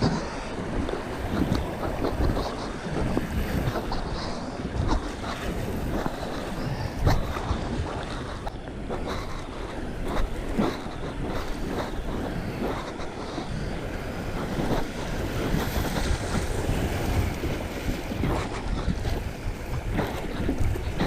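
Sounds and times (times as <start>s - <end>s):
life jacket scratching camera: 0.0s - 21.0s
water noise: 0.0s - 21.0s
wind noise: 0.0s - 21.0s.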